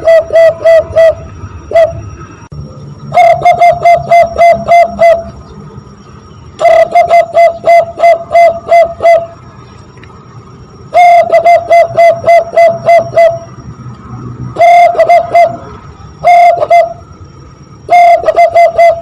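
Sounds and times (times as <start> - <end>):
hooting through cupped hands: 0.0 - 5.6, 6.5 - 9.6, 10.7 - 13.8, 14.5 - 19.0.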